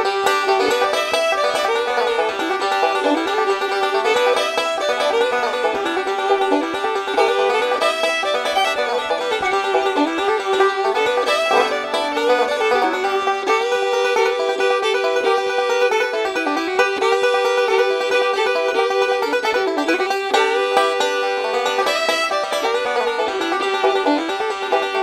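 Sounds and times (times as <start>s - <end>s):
instrumental music: 0.0s - 25.0s
plucked string notes: 0.0s - 25.0s.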